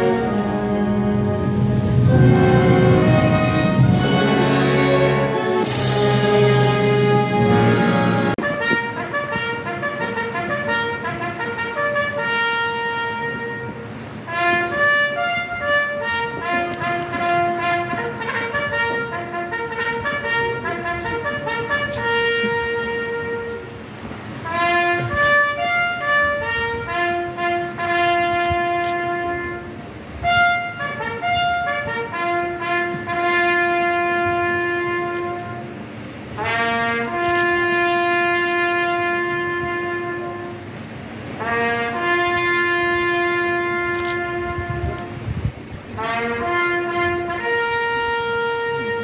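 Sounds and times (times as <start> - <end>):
brass band playing march: 0.0 - 49.0.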